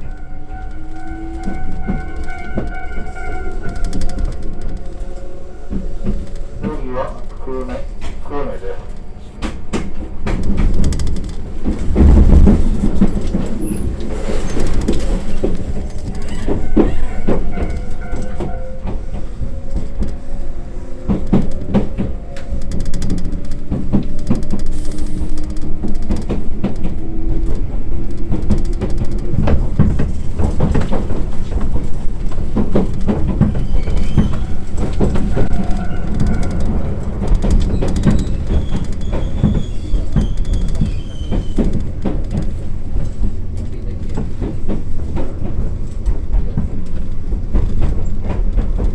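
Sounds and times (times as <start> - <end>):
train wheels clicking over track: 0.0 - 48.9.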